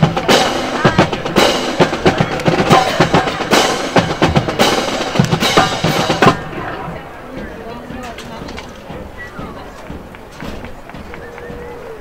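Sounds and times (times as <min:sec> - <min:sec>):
snare and bass drums marching: 0:00.0 - 0:12.0.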